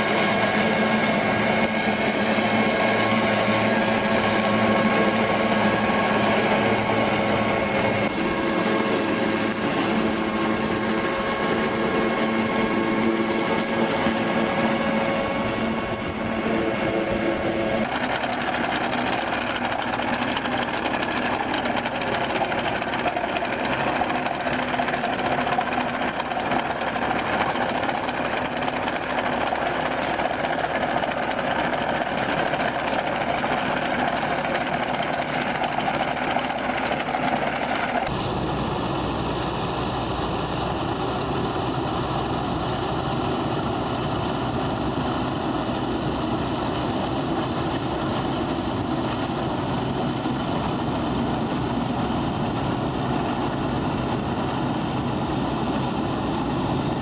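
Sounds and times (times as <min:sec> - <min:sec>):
machinery engine running: 0:00.0 - 0:57.0.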